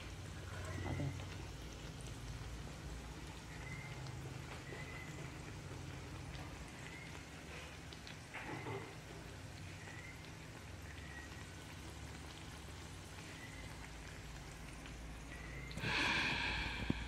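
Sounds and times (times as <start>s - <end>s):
bread sizzling in frying oil: 0.0s - 16.9s.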